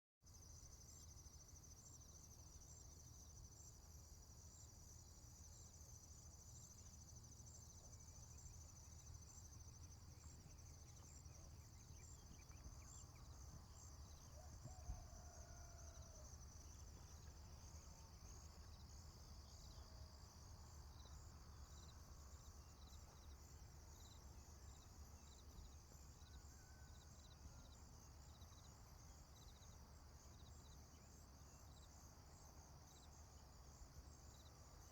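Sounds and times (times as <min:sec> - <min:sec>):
crickets chirping: 0:00.3 - 0:34.9.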